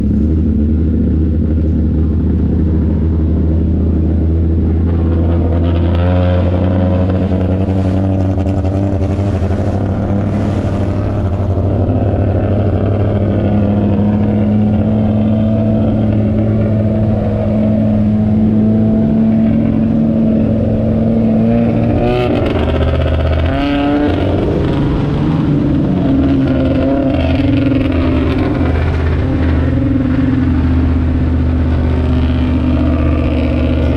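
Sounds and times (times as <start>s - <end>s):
race car engines racing: 0.0s - 33.9s.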